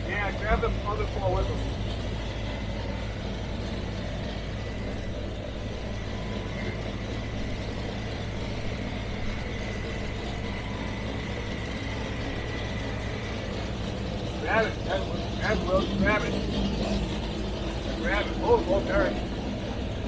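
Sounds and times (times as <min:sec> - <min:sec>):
engine idling: 0:00.0 - 0:20.0
faint steady whine: 0:00.0 - 0:20.0.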